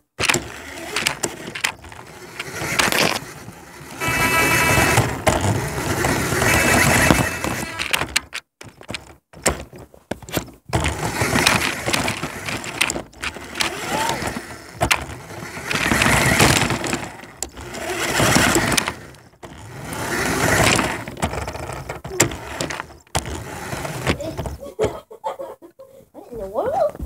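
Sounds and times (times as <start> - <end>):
sharp knocks and clatter: 0.0 - 25.0
toy car motor whirring: 0.2 - 9.8, 10.7 - 24.9.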